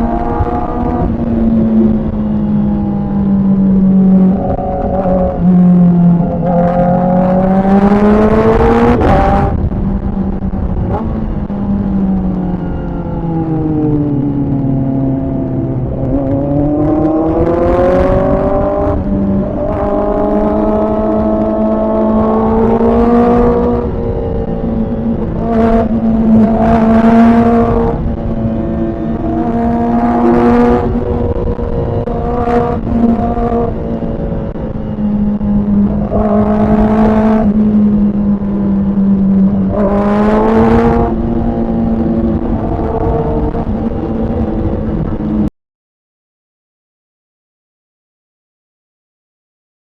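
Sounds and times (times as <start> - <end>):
motorcycle engine accelerating: 0.0 - 45.5.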